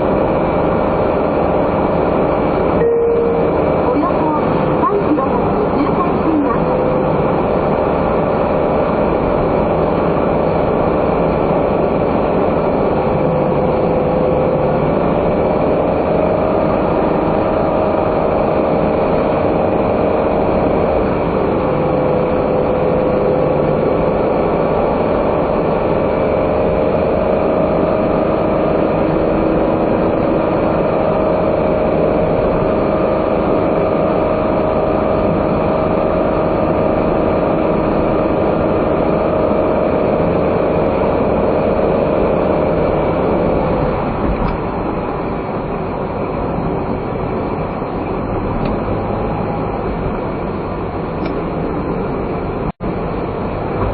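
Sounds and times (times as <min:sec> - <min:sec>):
car engine running: 0:00.0 - 0:53.9
road noise inside car: 0:00.0 - 0:53.9.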